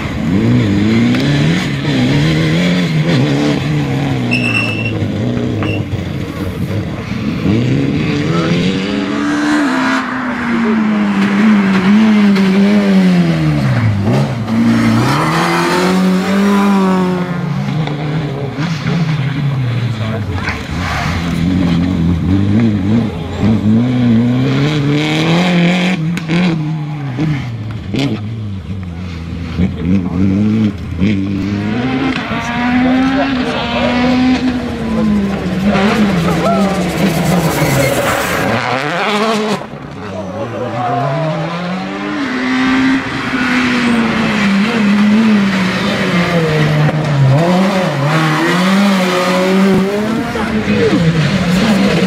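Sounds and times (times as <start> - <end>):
rally car engine at high revs: 0.0 - 52.0.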